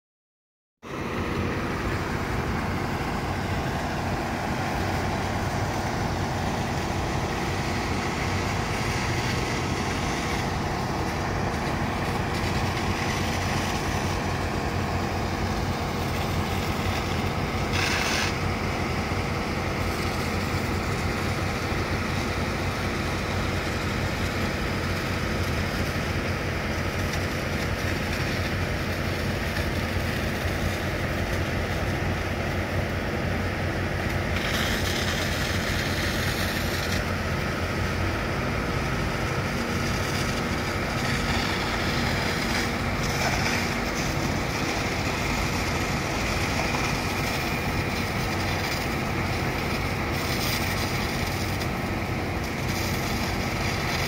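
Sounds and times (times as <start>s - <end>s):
diesel engines running: 0.8s - 54.0s.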